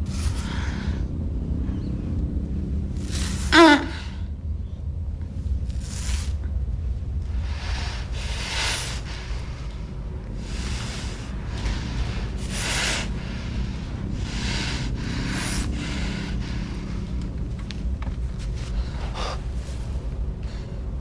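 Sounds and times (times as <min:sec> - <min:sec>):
heavy breathing: 0:00.0 - 0:04.6, 0:05.4 - 0:21.0
steady low rumble: 0:00.0 - 0:21.0.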